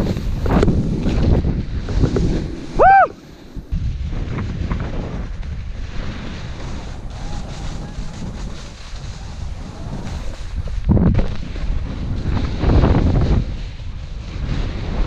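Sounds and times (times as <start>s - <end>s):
snowboard sliding over packed snow: 0.0s - 15.0s
wind buffeting microphone: 0.0s - 15.0s.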